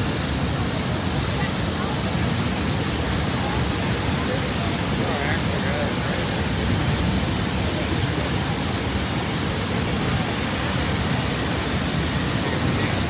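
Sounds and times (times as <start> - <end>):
water rushing over falls: 0.0 - 13.0.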